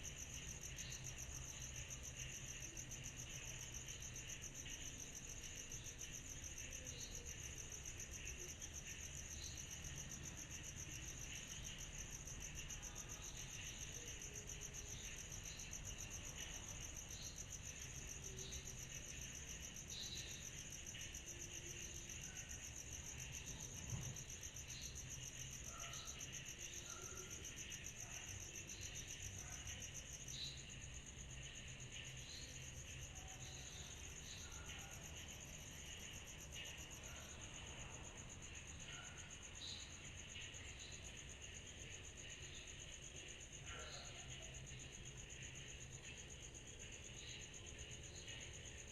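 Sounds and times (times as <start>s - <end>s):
night insects trilling: 0.0s - 48.9s.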